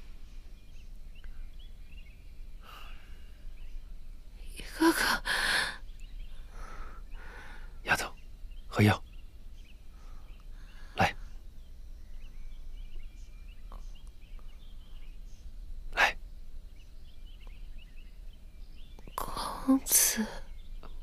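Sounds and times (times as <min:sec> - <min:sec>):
faint high chirping: 0:00.0 - 0:21.0.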